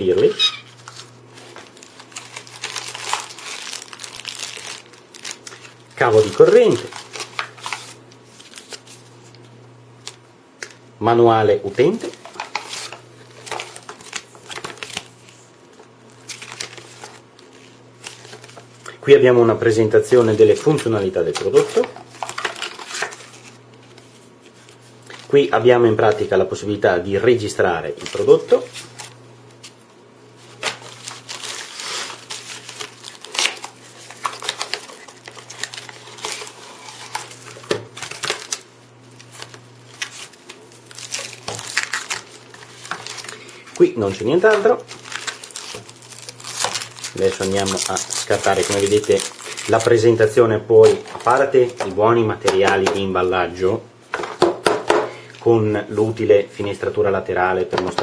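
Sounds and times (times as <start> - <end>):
paper rustling and crackling: 0.1 - 9.4, 11.8 - 15.5, 16.1 - 18.9, 20.1 - 26.3, 27.9 - 29.8, 30.4 - 53.1.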